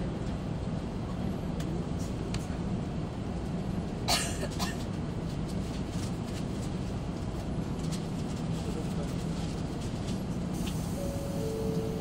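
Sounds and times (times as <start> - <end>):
train cabin low hum: 0.0 - 12.0.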